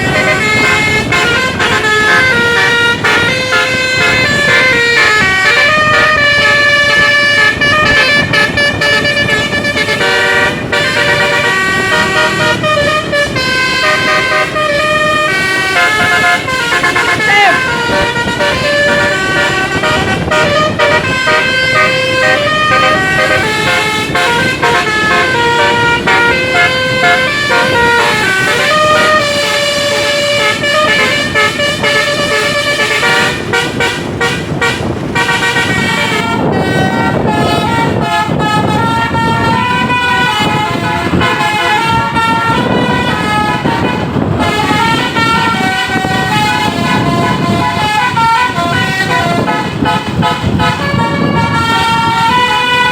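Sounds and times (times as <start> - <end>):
musical bus air horn tune: 0.0 - 52.9
steady low rumble: 0.0 - 52.9.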